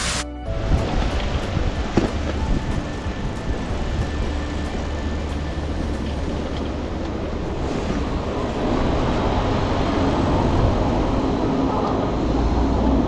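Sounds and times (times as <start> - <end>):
road noise: 0.0 - 13.0
wind rumble: 0.0 - 13.0.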